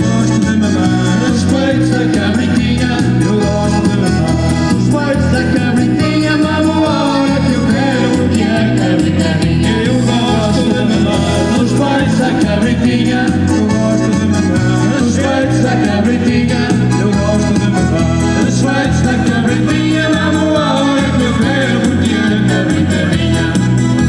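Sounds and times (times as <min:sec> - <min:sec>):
live band playing dance music: 0:00.0 - 0:24.0.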